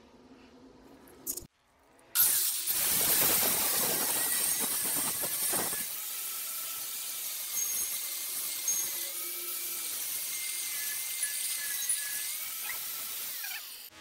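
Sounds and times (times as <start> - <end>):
wire-wheel grinder scrubbing metal: 2.2 - 13.9.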